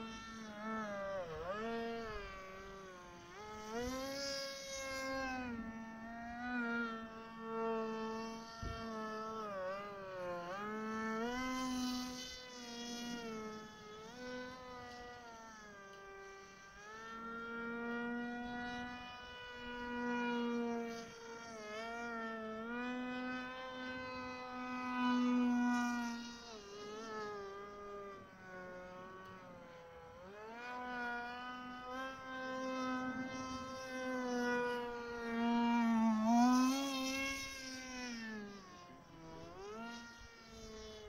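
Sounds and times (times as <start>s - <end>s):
model plane electric motor whine: 0.0s - 41.0s.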